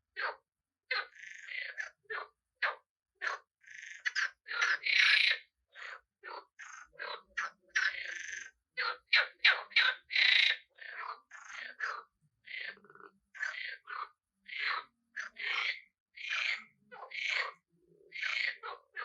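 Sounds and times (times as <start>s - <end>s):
frogs croaking: 0.2s - 19.0s.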